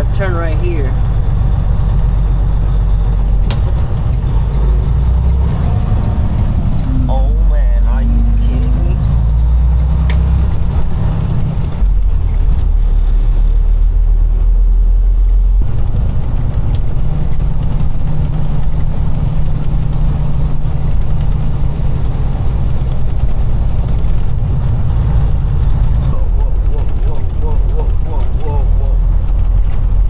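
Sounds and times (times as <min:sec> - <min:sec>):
diesel truck engine rumble: 0:00.0 - 0:30.0.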